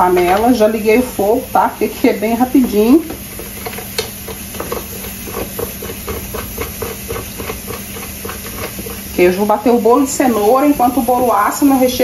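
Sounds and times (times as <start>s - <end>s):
pressure cooker valve hissing: 0.0s - 12.0s.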